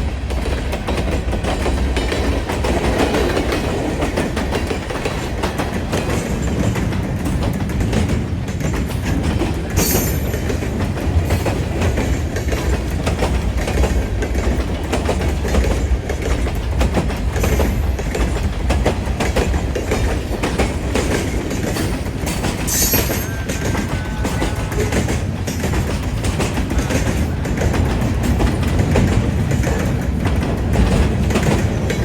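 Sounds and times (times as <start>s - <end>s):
freight train low rumble: 0.0s - 32.0s
train wheels clicking over rail joints: 0.0s - 32.0s.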